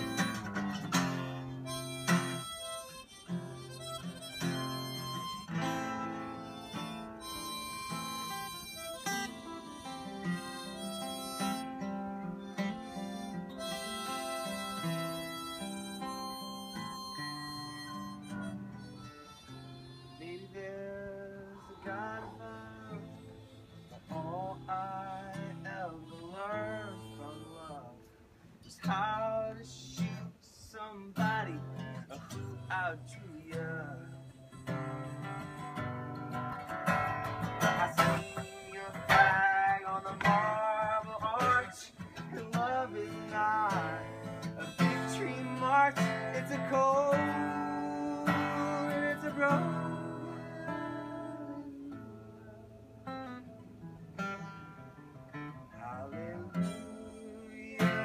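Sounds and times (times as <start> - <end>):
harmonica playing: 0.0 - 28.1, 31.4 - 53.6, 54.2 - 58.0
strummed acoustic guitar: 0.0 - 58.0.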